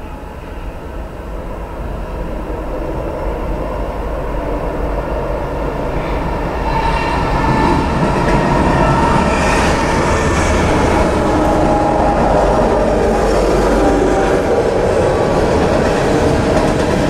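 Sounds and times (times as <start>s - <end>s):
diesel locomotives approaching: 0.0s - 17.0s.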